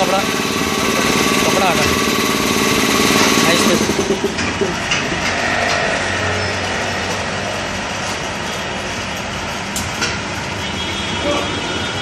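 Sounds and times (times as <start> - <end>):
machine humming: 0.0 - 9.8.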